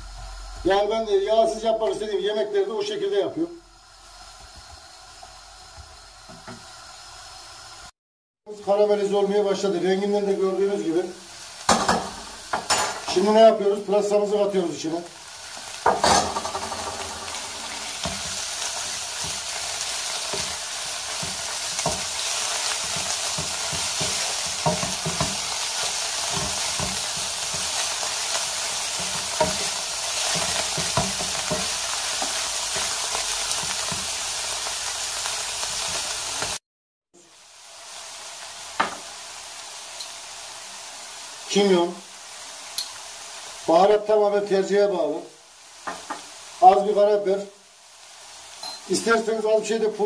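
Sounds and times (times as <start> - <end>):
vegetables sizzling in oil: 0.0 - 36.6, 37.2 - 50.0.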